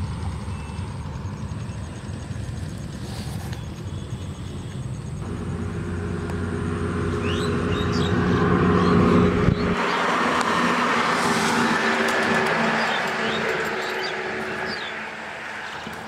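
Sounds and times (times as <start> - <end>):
heavy truck engine rumble: 0.0 - 16.0.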